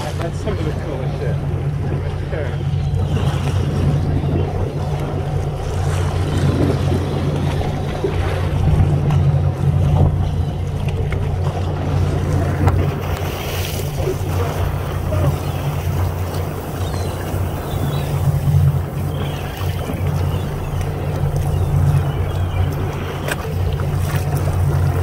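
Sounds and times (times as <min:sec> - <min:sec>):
boat engine humming: 0:00.0 - 0:25.0
water noise: 0:00.0 - 0:25.0
wind: 0:00.0 - 0:25.0.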